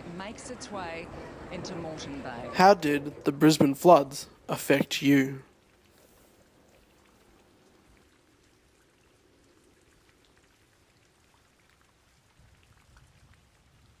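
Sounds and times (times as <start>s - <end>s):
faint rain drops: 0.0s - 14.0s.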